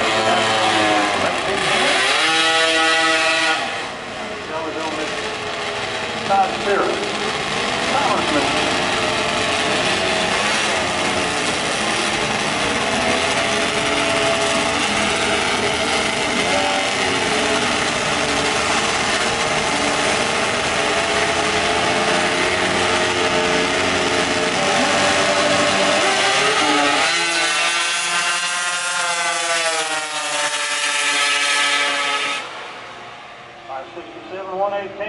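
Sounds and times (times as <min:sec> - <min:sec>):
high-revving drag racing engines: 0:00.0 - 0:35.0.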